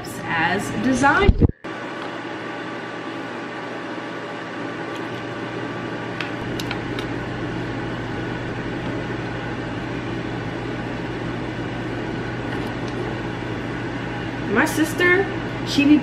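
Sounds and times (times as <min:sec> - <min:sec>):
air fryer fan whirring: 0:00.0 - 0:16.0.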